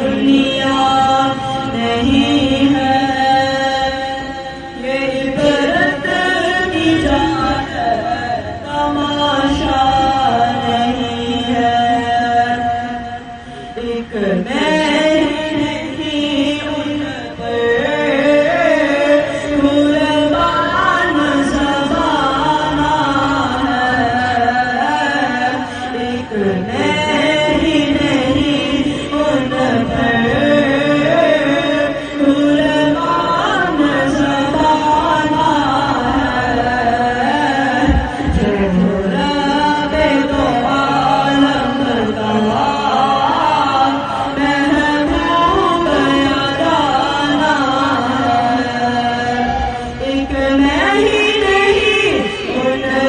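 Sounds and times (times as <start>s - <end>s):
young man chanting: 0.0s - 53.0s.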